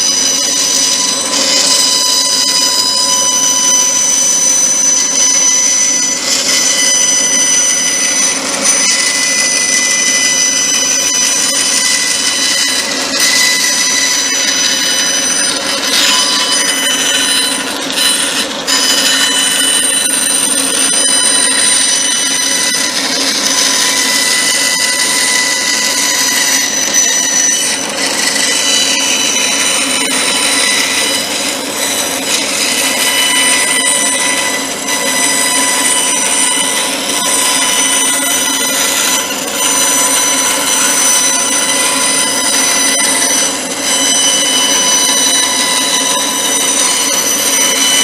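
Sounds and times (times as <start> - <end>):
power tool squealing whine: 0.0 - 48.0
rough grinding noise: 0.0 - 48.0.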